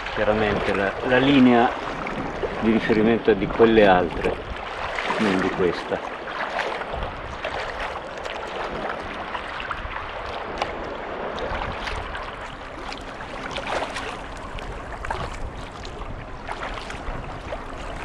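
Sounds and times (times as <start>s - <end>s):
small splashes: 0.0s - 18.0s
water rushing and splashing: 0.0s - 18.0s.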